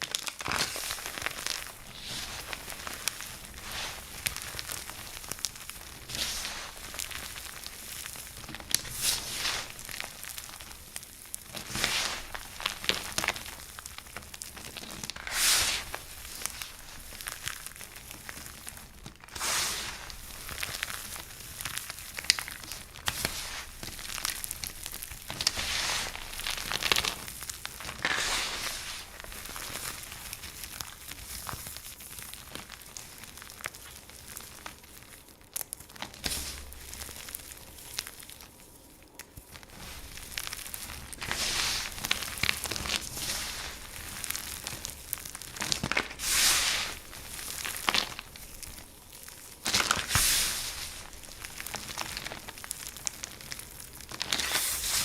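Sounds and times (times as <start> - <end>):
dry soap crunching: 0.0 - 55.0.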